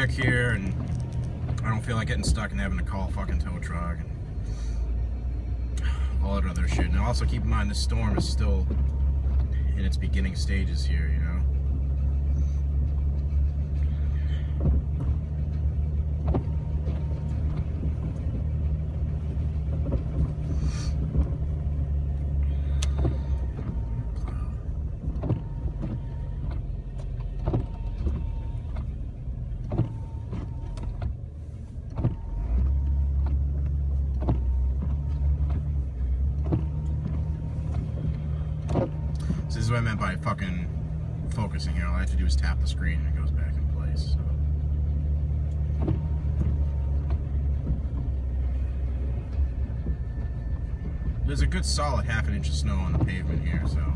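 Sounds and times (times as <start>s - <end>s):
engine and road drone: 0.0s - 53.9s.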